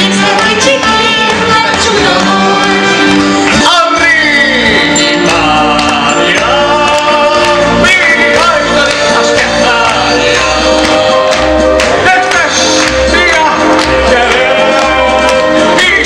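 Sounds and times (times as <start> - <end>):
man singing: 0.0 - 16.0
person singing: 0.0 - 16.0
recorded backing music: 0.0 - 16.0.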